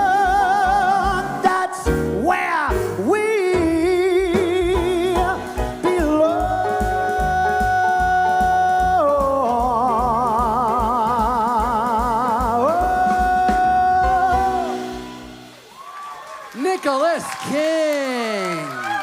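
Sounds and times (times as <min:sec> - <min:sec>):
band playing: 0:00.0 - 0:15.8.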